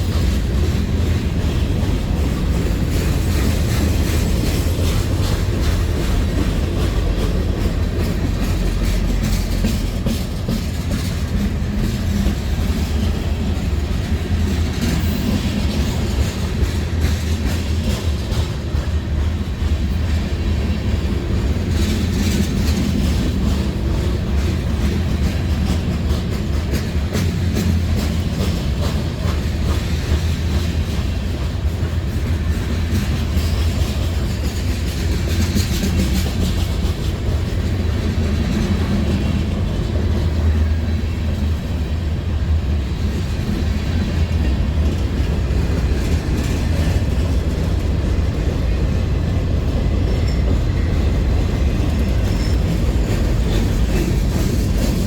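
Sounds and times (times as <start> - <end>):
train rolling past: 0.0 - 55.0
wheels clicking over rail joints: 0.0 - 55.0.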